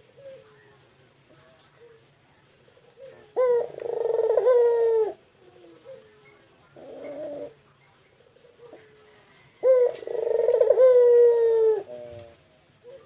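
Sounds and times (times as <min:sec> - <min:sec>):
dove cooing: 0:00.0 - 0:00.8, 0:01.4 - 0:13.0.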